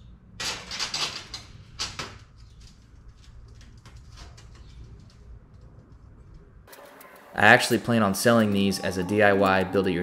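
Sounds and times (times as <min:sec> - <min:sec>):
steady low hum: 0:01.2 - 0:10.0.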